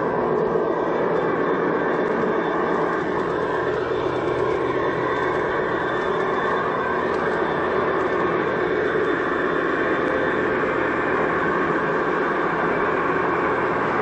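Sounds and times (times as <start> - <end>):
diesel engine drone: 0.0 - 14.0
train rolling on track: 0.0 - 14.0.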